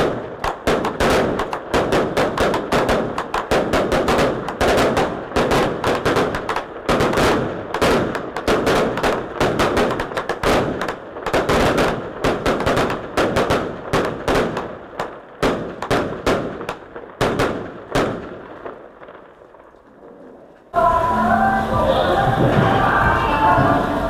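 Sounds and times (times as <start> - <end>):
sharp bangs and cracks: 0.0 - 20.7.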